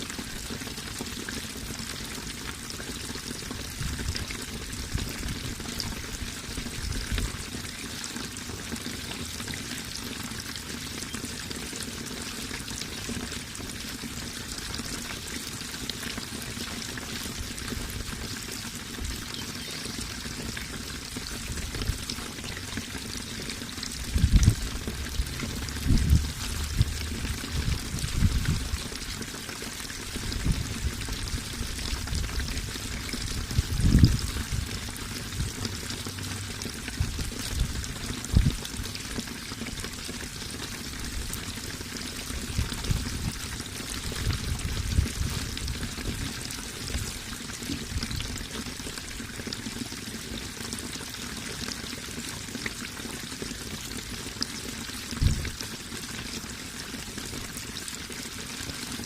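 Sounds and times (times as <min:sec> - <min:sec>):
water pouring and trickling: 0:00.0 - 0:59.0.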